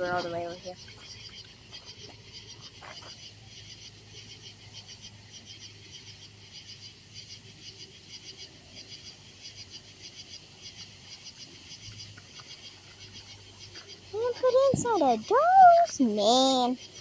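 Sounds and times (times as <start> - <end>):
insects and frogs chirping: 0.0 - 17.0.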